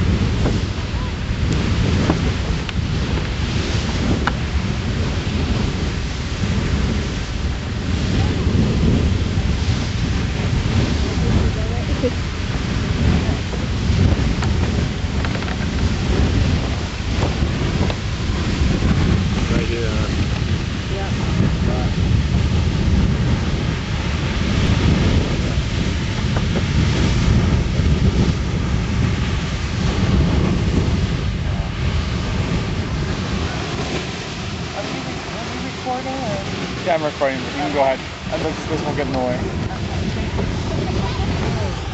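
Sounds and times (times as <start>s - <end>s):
geyser rushing water and steam: 0.0s - 41.9s.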